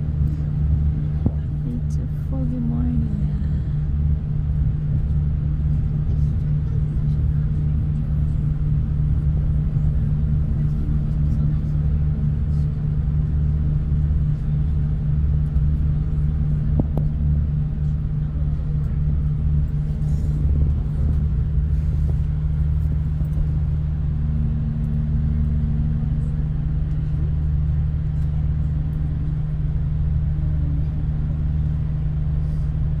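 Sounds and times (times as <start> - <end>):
train rumble and engine hum: 0.0 - 33.0.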